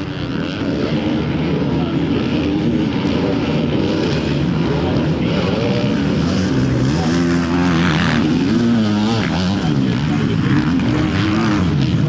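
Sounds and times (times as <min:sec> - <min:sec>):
motocross bike engines racing: 0:00.0 - 0:12.0.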